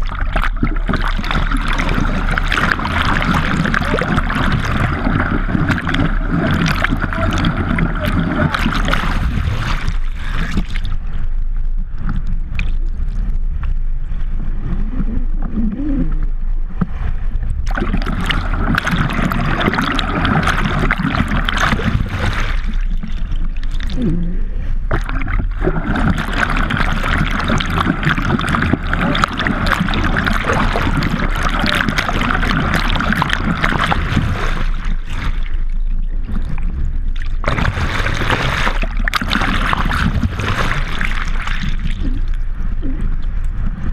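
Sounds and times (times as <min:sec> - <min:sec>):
water rushing and splashing: 0:00.0 - 0:15.4, 0:16.9 - 0:43.9
low hum: 0:00.0 - 0:43.9.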